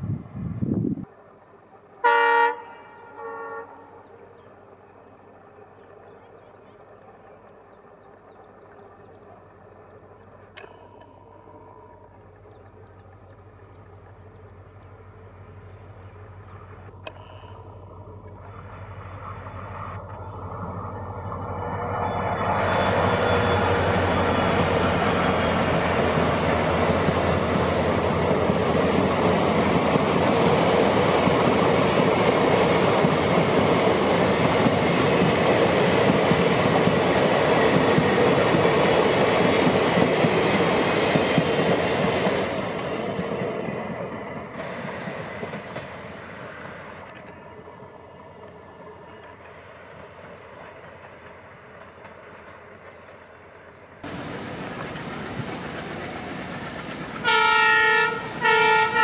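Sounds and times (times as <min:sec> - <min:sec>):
diesel locomotive approaching: 0:00.0 - 0:59.0
train coaches rolling past: 0:00.0 - 0:59.0.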